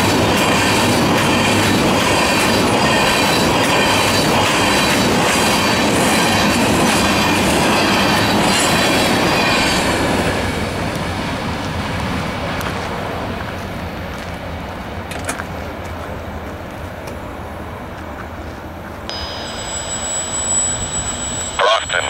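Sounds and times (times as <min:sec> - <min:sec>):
freight train wheels rumbling: 0:00.0 - 0:19.1.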